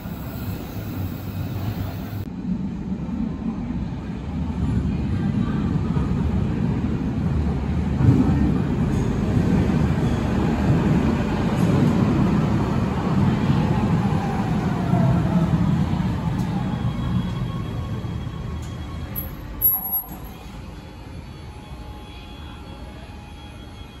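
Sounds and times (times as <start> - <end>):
train wheels rumbling on rails: 0.0 - 20.8.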